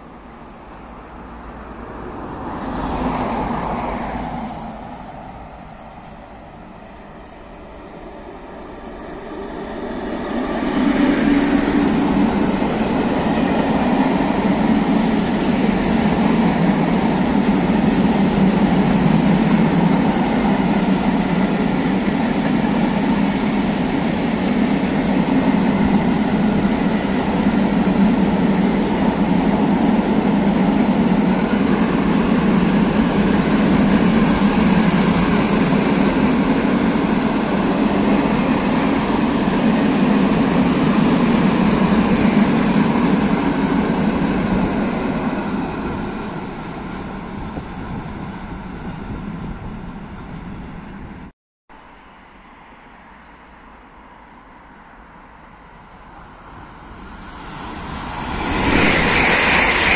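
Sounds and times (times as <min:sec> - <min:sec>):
freight train wheels rumbling: 0:00.0 - 0:51.3, 0:56.0 - 0:59.9.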